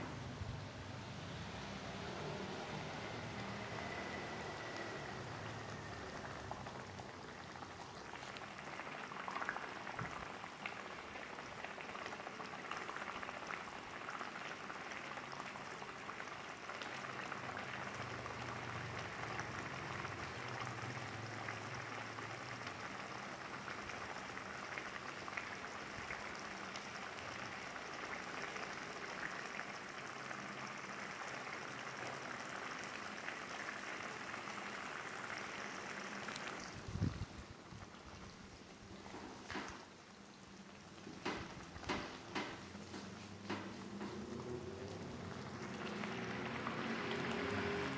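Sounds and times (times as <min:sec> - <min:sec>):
sauce sizzling in hot oil: 0:01.3 - 0:36.8, 0:37.8 - 0:47.9.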